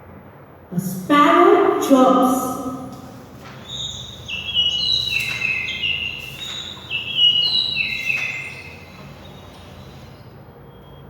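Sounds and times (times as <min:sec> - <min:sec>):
sparrow chirping: 0:01.2 - 0:10.4.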